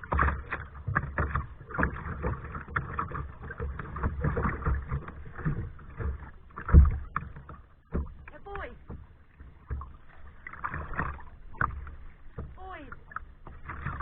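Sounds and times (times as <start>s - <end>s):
paddle splashing in water: 0.0s - 14.0s.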